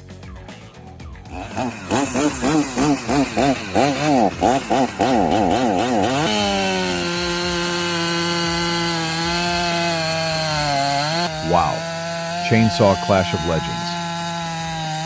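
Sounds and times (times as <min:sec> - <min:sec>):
chainsaw revving: 0:01.2 - 0:15.0.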